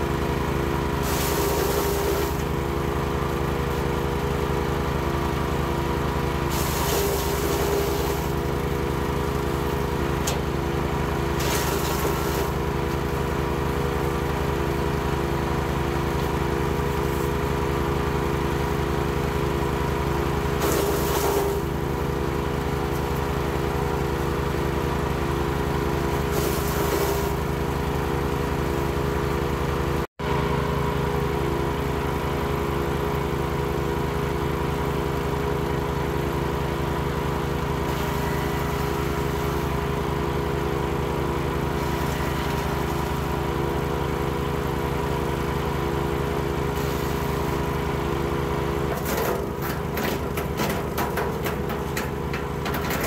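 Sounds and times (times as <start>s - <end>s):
wood chipper engine running: 0.0s - 53.0s.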